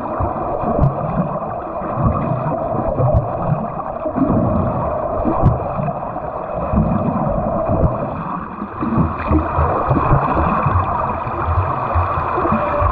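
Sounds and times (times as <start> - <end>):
water splashing from swimmer: 0.0 - 12.9.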